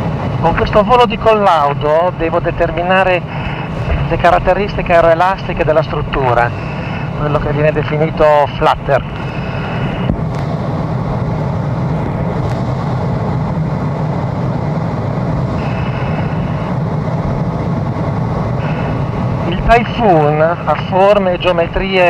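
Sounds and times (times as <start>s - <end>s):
jet aircraft cabin rumble: 0.0s - 22.0s.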